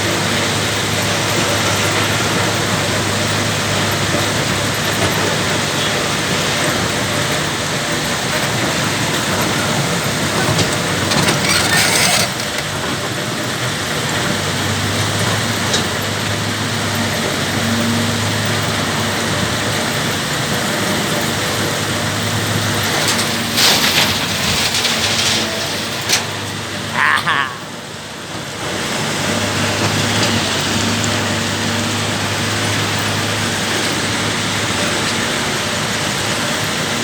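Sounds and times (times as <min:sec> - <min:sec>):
excavator diesel engine rumbling: 0:00.0 - 0:37.0
gravel crunching and pouring: 0:00.0 - 0:37.0.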